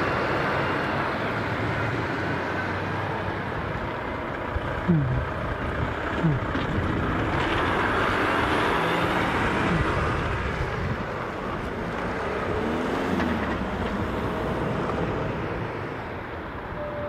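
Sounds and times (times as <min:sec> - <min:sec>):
heavy trucks driving past: 0:00.0 - 0:17.0.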